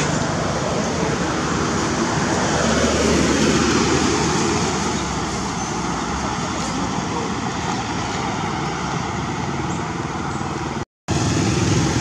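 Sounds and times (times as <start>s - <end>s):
passing motor vehicle rumble: 0.0s - 12.0s.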